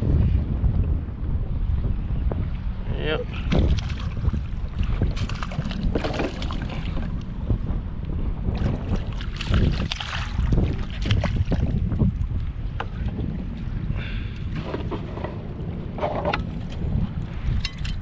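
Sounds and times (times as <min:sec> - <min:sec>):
wind buffeting microphone: 0:00.0 - 0:18.0
water splashing against hull: 0:02.3 - 0:18.0.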